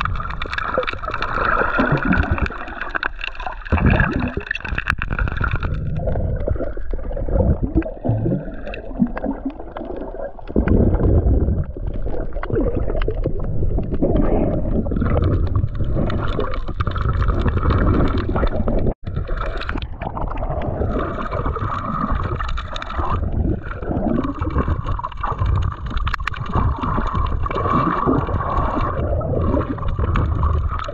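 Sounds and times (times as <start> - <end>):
underwater rumble and gurgling: 0.0 - 30.9.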